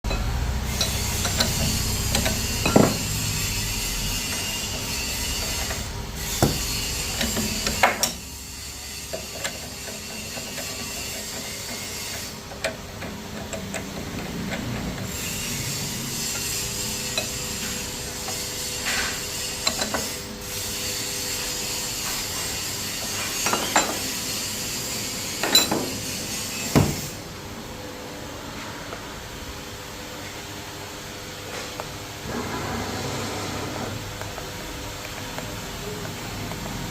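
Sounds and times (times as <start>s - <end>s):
faint machine hum: 0.0s - 36.9s.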